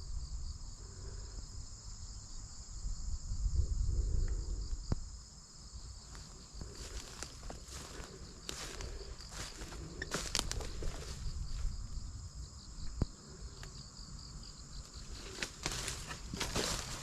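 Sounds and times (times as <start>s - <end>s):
crickets shrilling: 0.0s - 17.0s.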